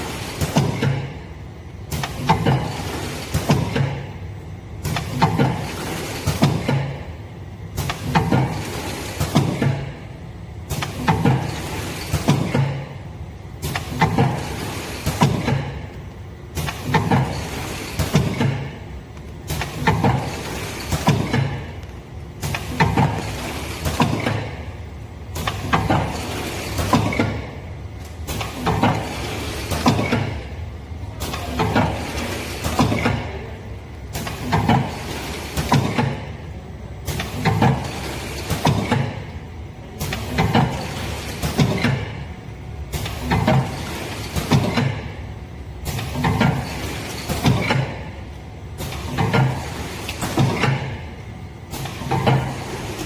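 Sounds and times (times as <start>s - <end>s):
packaging machine knocking and clacking: 0.0s - 4.2s, 4.8s - 39.4s, 40.0s - 53.0s
steady mechanical noise: 0.0s - 53.0s.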